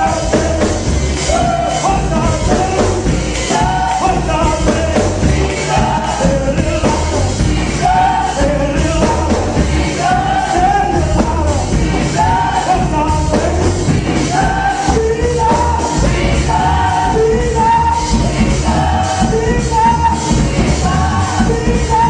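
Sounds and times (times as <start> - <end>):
bass: 0.0 - 22.0
drums with a steady beat: 0.0 - 22.0
praise band playing: 0.0 - 22.0
voices singing: 0.0 - 22.0.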